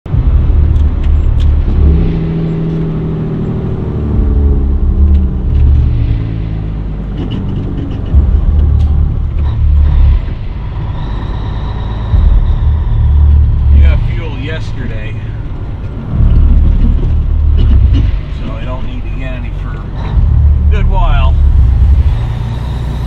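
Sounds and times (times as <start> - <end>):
diesel truck engine: 0.0 - 23.0
heavy low rumble: 0.0 - 23.0.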